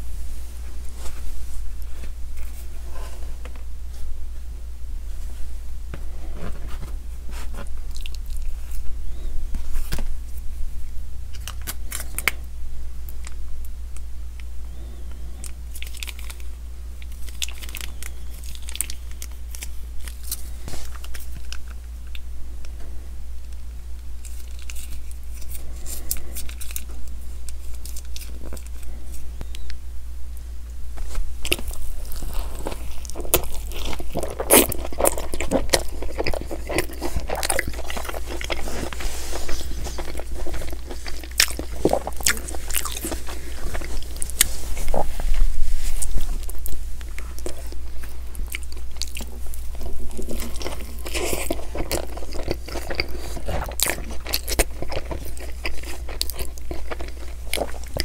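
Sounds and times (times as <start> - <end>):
low electrical hum: 0.0 - 58.0
crunchy chewing of a burger: 6.0 - 10.6, 11.2 - 13.4, 14.4 - 29.8, 31.0 - 58.0.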